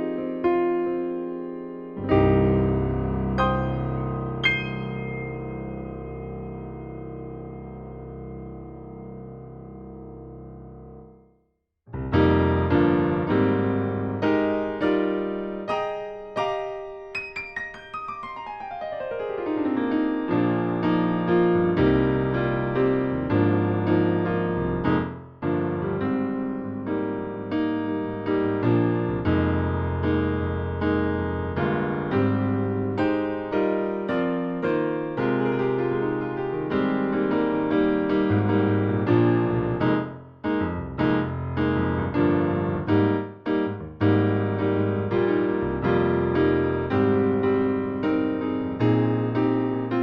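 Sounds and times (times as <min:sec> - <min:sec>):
digital piano playing chords: 0:00.0 - 0:11.2, 0:11.9 - 0:50.0.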